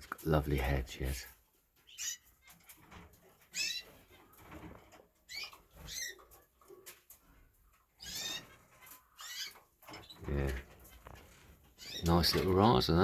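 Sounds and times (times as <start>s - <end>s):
canaries chirping: 0.0s - 13.0s.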